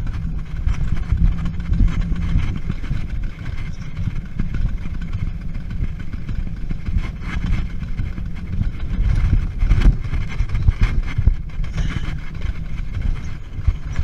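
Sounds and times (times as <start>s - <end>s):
coaster wheels rumbling on metal rail: 0.0s - 14.0s.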